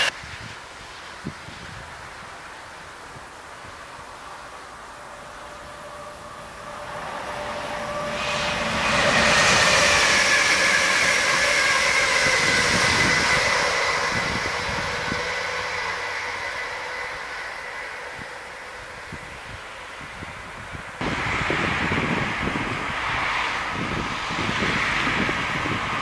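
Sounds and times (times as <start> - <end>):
high electric whine: 0.0 - 26.0
train wheels rushing past: 0.0 - 26.0.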